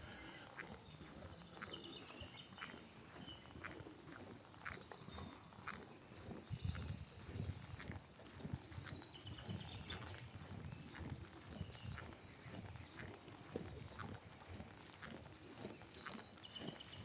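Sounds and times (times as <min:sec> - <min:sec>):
footsteps on a park path: 0:00.0 - 0:17.0
small birds chirping: 0:00.0 - 0:17.0.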